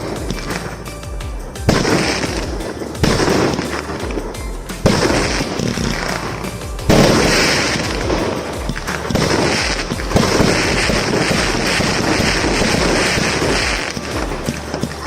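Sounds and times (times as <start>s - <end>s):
firework crackling: 0.0s - 15.0s
firework launch thumps and bursts: 0.0s - 15.0s.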